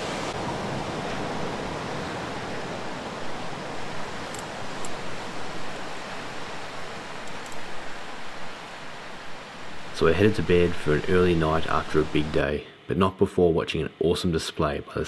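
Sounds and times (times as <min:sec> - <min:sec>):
ocean surf washing on beach: 0:00.0 - 0:12.6.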